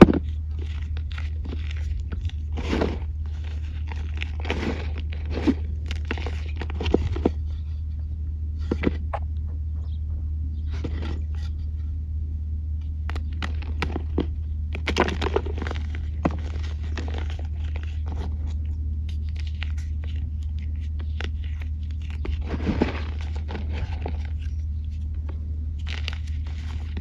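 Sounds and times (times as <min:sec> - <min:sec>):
grit trickling and clicking: 0:00.0 - 0:08.1, 0:13.0 - 0:27.0
steady low hum: 0:00.0 - 0:27.0.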